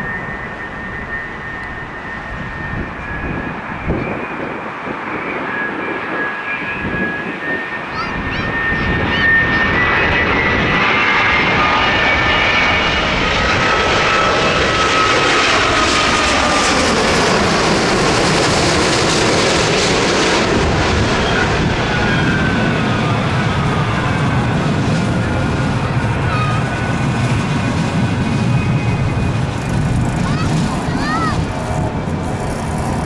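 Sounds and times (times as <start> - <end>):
engine whine falling in pitch: 0.0 - 33.0
jet engines running: 0.0 - 33.0.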